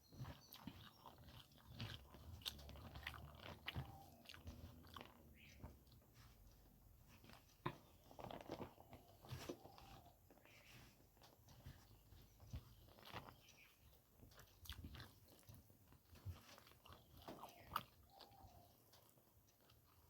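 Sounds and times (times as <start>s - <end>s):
wet chewing clicks and smacks: 0.0s - 20.0s.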